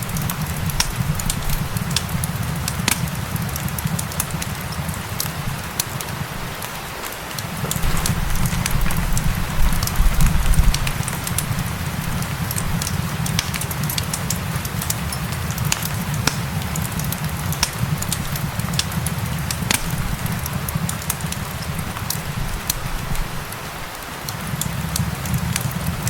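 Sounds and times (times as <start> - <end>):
fireplace crackling: 0.0 - 26.0
rain hiss: 0.0 - 26.0.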